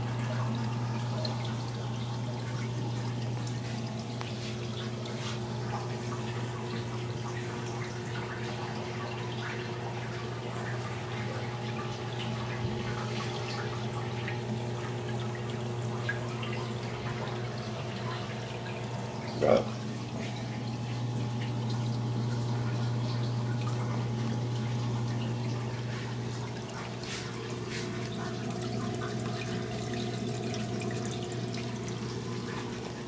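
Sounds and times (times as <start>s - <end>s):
low pump hum: 0.0s - 33.0s
water trickling and dripping: 0.0s - 33.0s.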